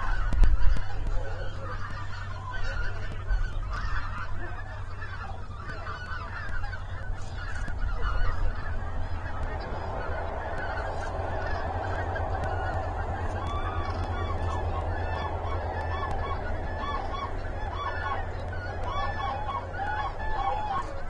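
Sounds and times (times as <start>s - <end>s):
cranes trumpeting calls: 0.0s - 21.0s
steady low rumble: 0.0s - 21.0s.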